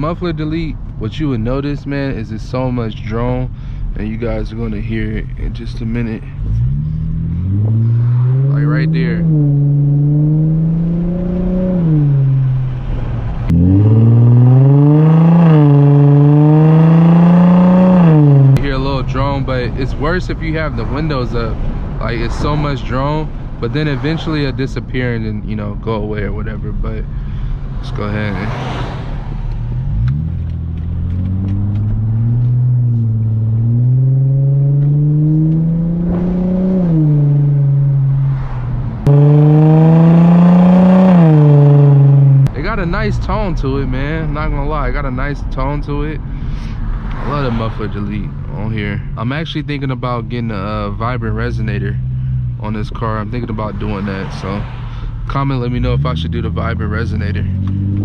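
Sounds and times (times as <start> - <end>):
car engine droning while driving: 0.0 - 58.0.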